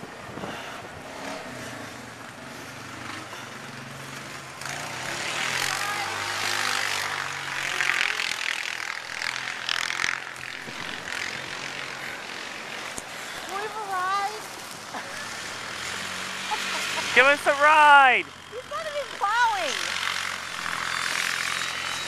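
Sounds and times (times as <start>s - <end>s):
vehicle passing: 0.0s - 22.0s.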